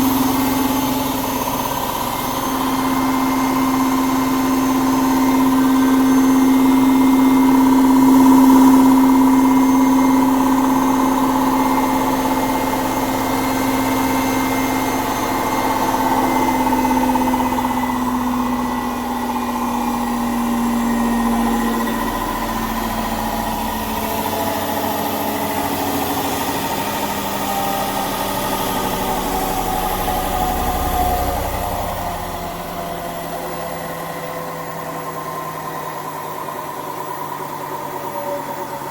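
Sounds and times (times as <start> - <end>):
washing machine spin whine: 0.0 - 38.9.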